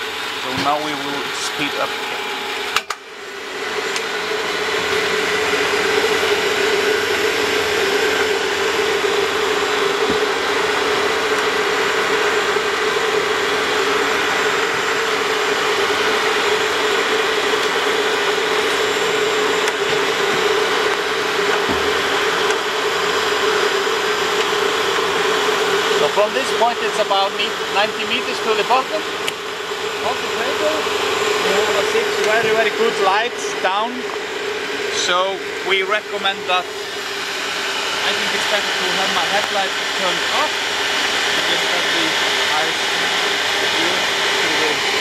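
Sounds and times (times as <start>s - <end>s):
winch motor humming: 0.0s - 45.0s.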